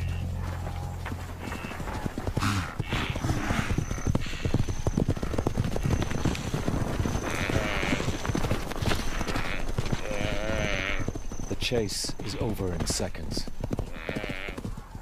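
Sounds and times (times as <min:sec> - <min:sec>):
animal calls: 0:00.0 - 0:06.4, 0:07.0 - 0:11.6, 0:13.9 - 0:15.0
hooves drumming on dry ground: 0:00.0 - 0:15.0.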